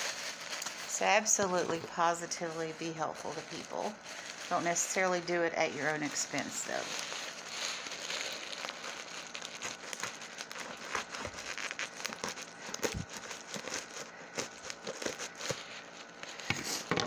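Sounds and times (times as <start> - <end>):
packing wrap crinkling: 0.0 - 17.0.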